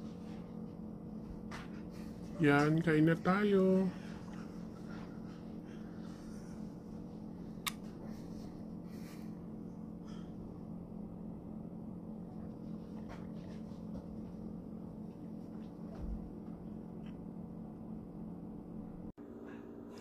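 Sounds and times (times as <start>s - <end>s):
low hum of room tone: 0.0s - 20.0s.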